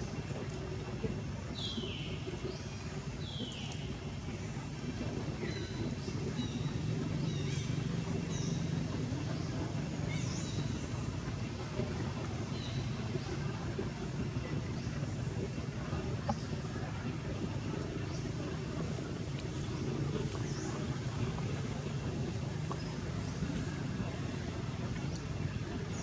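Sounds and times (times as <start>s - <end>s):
low engine-like rumble: 0.0s - 26.0s.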